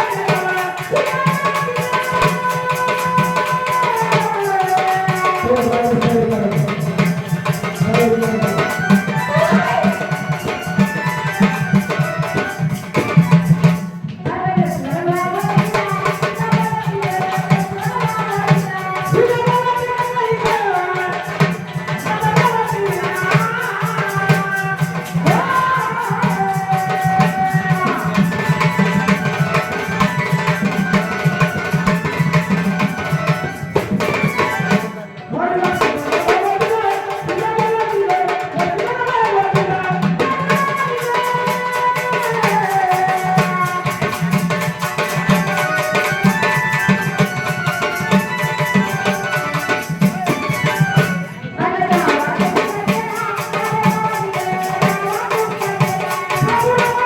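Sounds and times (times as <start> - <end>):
rattling percussion: 0.0 - 57.0
tabla rhythm: 0.0 - 57.0
woman singing: 0.0 - 57.0.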